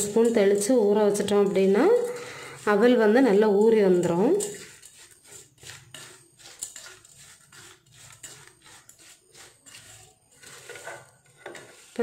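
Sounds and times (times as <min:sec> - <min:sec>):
spoon scraping a steel bowl: 0:00.0 - 0:12.0.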